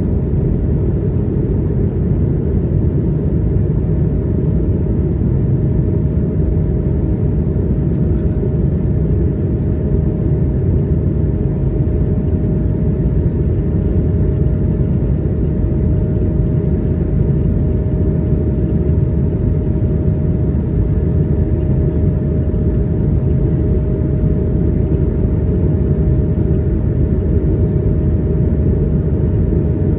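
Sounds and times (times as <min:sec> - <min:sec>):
airplane cabin engine rumble: 0:00.0 - 0:29.9
steady hum: 0:00.0 - 0:29.9.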